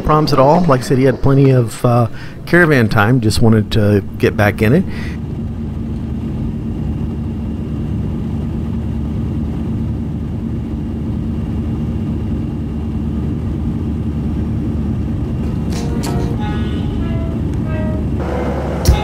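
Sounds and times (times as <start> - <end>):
faint steady hum: 0.0 - 19.0
jet engines and airflow drone: 0.0 - 19.0.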